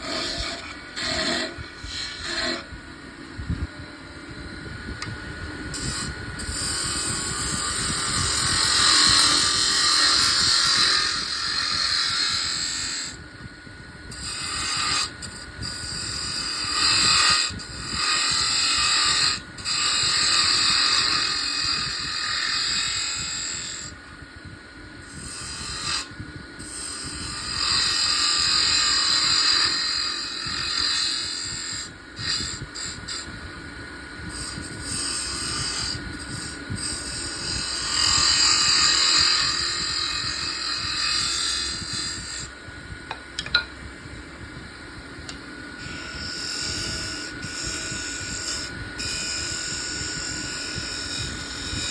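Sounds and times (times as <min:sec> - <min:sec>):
lathe tool cutting spinning wood: 0:00.0 - 0:02.8, 0:05.7 - 0:13.3, 0:14.0 - 0:24.0, 0:25.1 - 0:42.7, 0:45.5 - 0:51.9.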